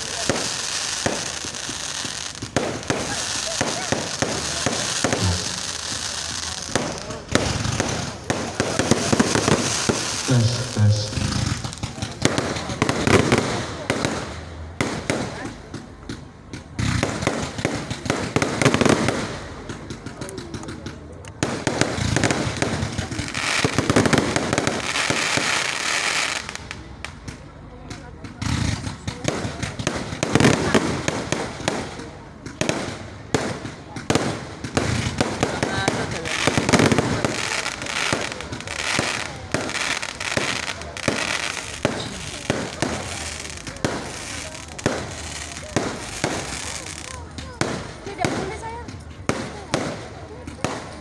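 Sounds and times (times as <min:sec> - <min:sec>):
fireworks crackling bangs: 0:00.0 - 0:51.0.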